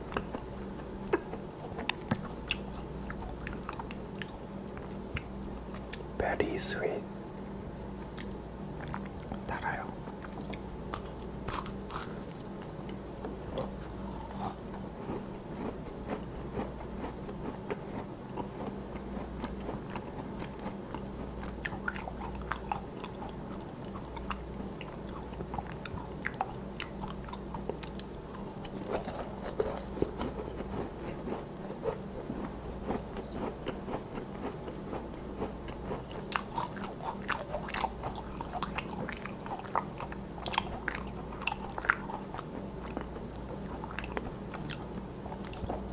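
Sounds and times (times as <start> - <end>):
low steady hum: 0.0 - 45.9
crunching and mouth clicks: 0.1 - 6.1, 8.1 - 45.9.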